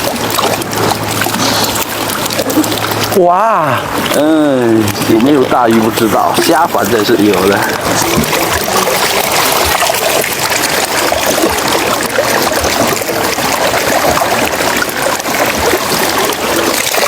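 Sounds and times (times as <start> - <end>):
running water splashing: 0.0 - 17.0.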